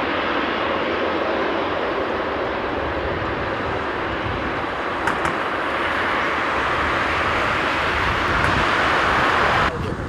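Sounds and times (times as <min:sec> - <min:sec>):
jet airliner rushing noise: 0:00.0 - 0:10.0.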